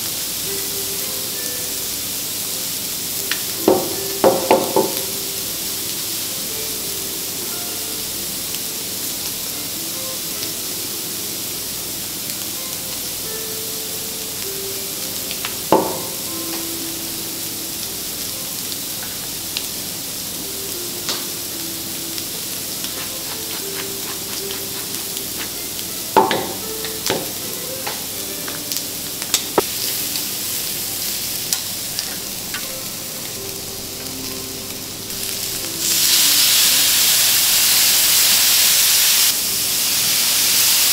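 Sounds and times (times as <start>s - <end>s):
seafood sizzling on griddle: 0.0s - 40.9s
soft background music: 0.0s - 40.9s.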